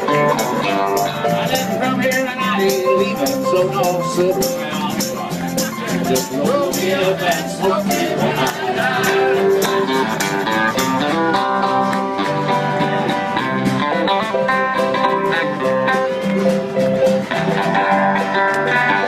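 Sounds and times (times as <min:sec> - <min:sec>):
country band playing instrumental: 0:00.0 - 0:19.0.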